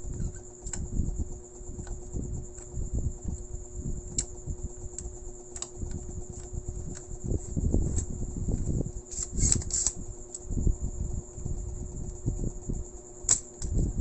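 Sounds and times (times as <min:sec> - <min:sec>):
electric fan whine and hum: 0:00.0 - 0:14.0.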